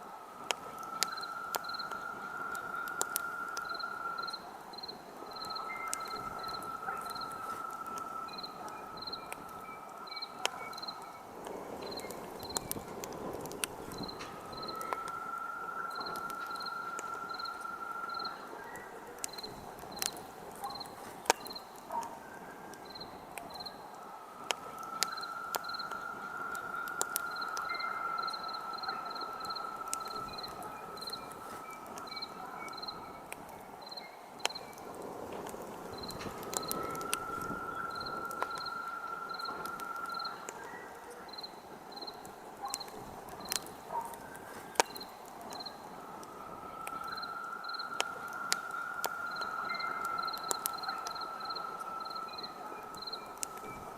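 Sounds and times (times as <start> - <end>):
campfire crackling and popping: 0.0 - 53.9
crickets chirping: 0.0 - 53.9
steady high whistle: 0.5 - 12.9, 13.8 - 33.2, 35.9 - 53.9.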